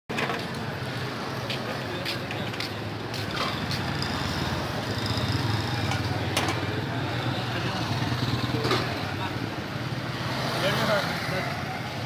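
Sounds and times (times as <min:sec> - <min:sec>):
traffic engine hum: 0:00.1 - 0:12.0.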